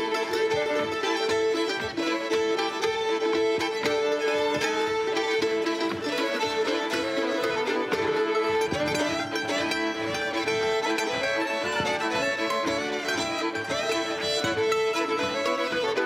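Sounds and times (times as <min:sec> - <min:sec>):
fiddle-led dance band playing: 0:00.0 - 0:16.0.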